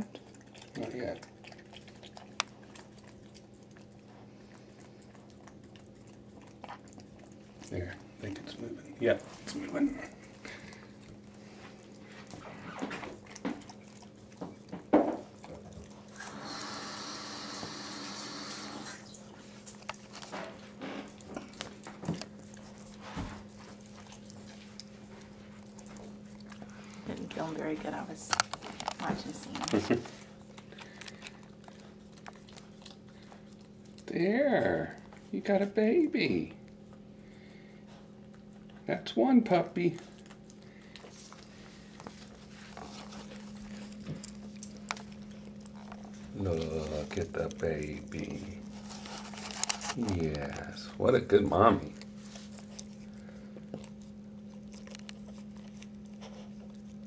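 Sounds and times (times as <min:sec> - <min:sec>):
dog licking puppy: 0:00.0 - 0:57.0
steady low hum: 0:00.0 - 0:57.0.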